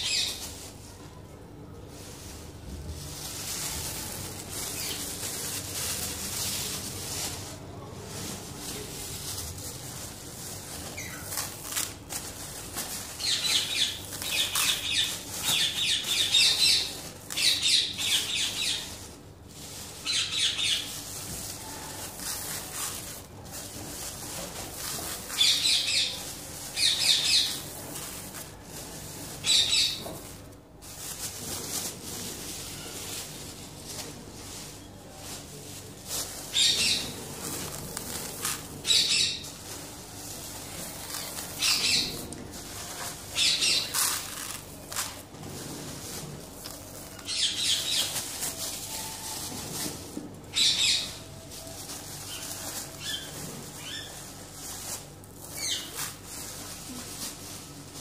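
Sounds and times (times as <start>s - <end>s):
plastic bags rustling: 0.0s - 58.0s.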